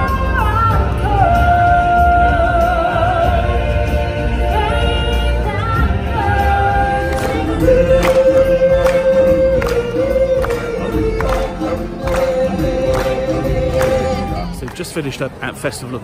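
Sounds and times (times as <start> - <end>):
singers holding long notes: 0.0 - 14.6.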